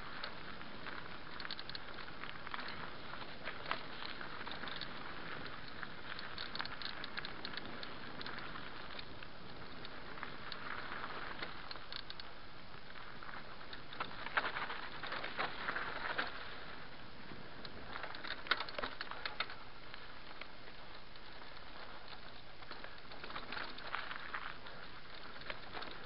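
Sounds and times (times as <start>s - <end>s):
bike rattling clicks: 0.0s - 26.0s
bike tyres crackling over gravel: 0.0s - 26.0s.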